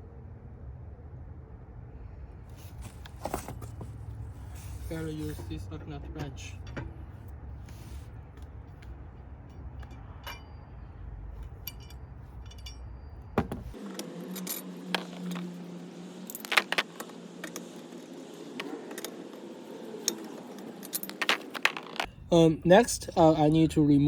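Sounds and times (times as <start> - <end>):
metal lug nuts clinking and rattling: 2.6 - 22.2.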